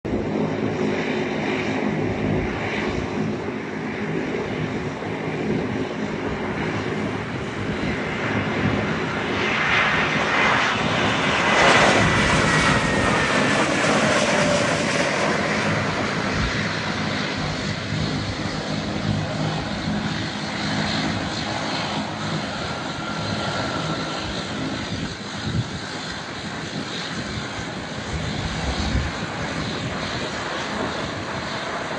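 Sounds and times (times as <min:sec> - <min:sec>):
jet airliner landing: 0:00.1 - 0:31.9.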